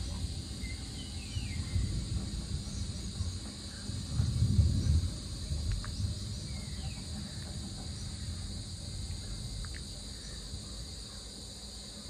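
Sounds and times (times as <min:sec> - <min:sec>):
thunder rumble: 0:00.0 - 0:09.8
insect chorus drone: 0:00.0 - 0:12.0.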